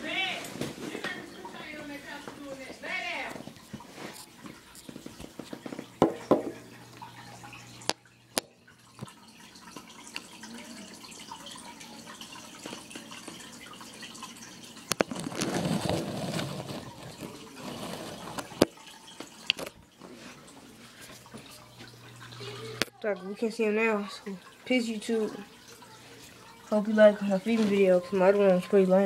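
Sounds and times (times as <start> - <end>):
water trickling in fish tank: 0.0 - 29.0.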